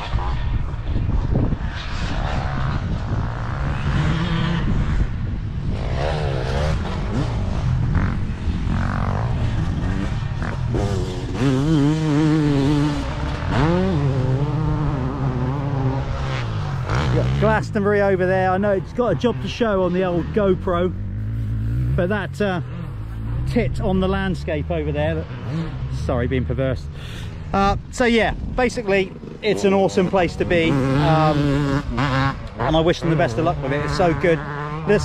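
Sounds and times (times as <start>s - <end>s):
motocross engines revving: 0.0s - 35.0s.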